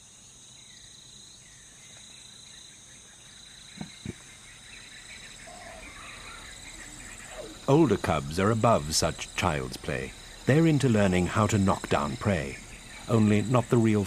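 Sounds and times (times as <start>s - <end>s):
faint bird chirps: 0.0s - 14.0s
insects chirring: 0.0s - 14.0s.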